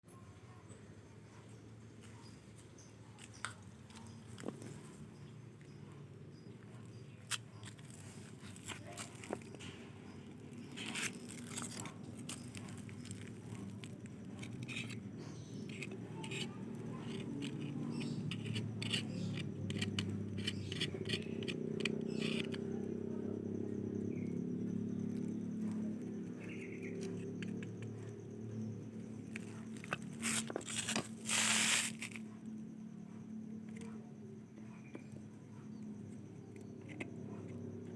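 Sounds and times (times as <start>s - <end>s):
engine low hum: 3.7s - 37.9s.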